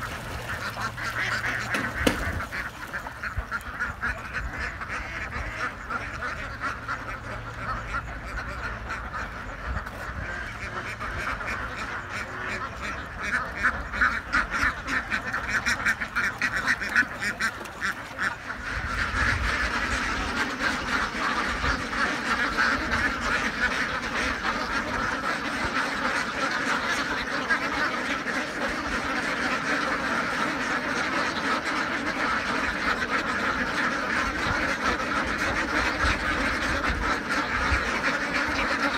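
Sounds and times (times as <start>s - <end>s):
flock of ducks quacking: 0.0s - 38.9s.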